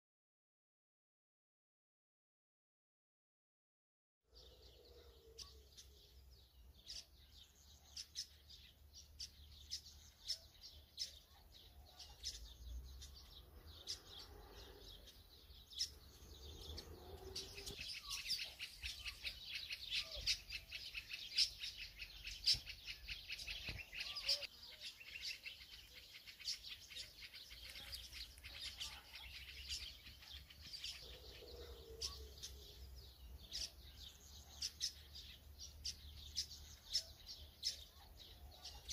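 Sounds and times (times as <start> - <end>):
small birds chirping: 4.3 - 38.9.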